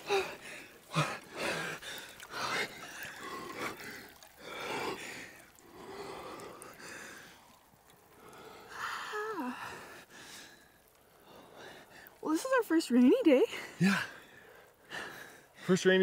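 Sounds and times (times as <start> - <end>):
people gasping and breathing hard: 0.0 - 12.2, 13.5 - 15.8.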